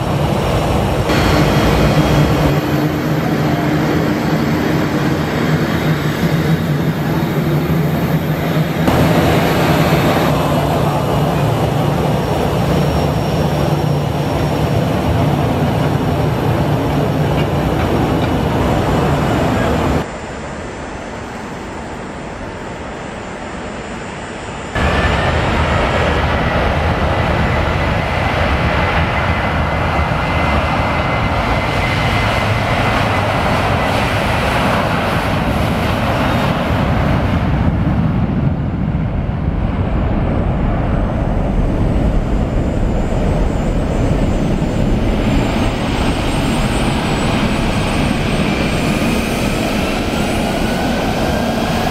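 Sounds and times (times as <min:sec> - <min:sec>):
high steady jet whine: 0:00.0 - 0:51.9
jet engines rumbling: 0:00.0 - 0:51.9.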